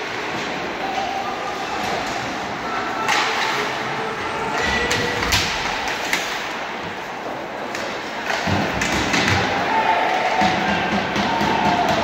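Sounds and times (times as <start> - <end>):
noisy background: 0.0 - 12.0
skates scraping ice: 0.0 - 12.0
sticks and puck clacking: 0.0 - 12.0.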